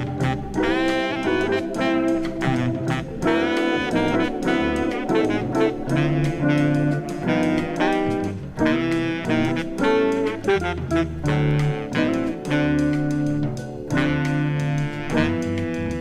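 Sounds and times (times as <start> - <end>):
bossa nova backing band: 0.0 - 16.0
saxophone melody: 0.0 - 16.0.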